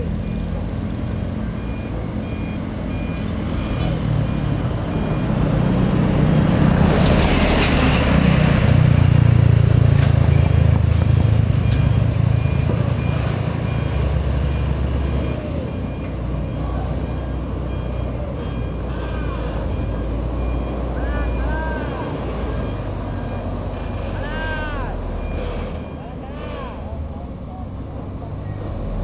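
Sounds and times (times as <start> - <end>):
reversing alarm beeps: 0.0 - 6.2, 11.4 - 29.0
truck diesel engine running: 0.0 - 29.0.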